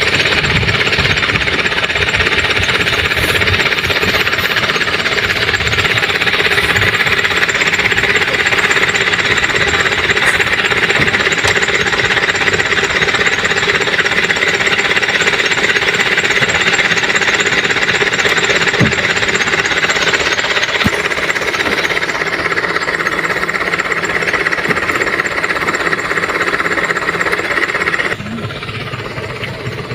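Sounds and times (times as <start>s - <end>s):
small engine droning: 0.0s - 29.9s.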